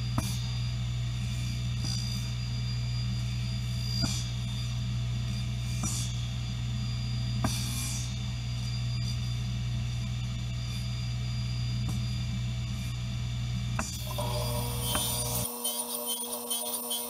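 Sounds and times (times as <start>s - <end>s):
electric machine hum: 0.0s - 17.0s.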